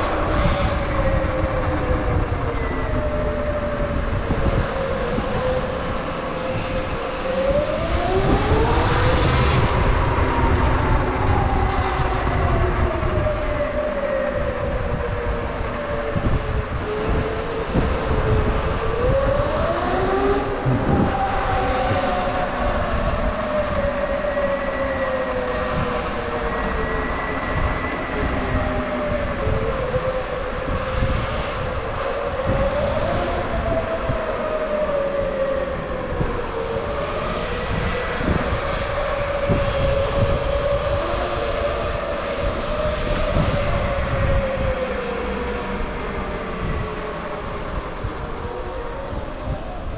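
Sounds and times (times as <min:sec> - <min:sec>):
wind rumble on microphone: 0:00.0 - 0:49.9.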